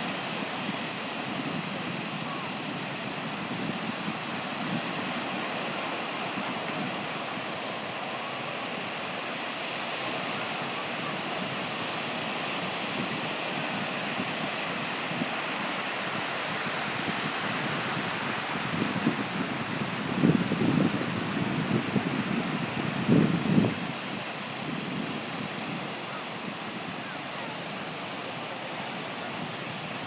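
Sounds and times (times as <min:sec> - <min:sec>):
sea waves breaking on shore: 0:00.0 - 0:30.0.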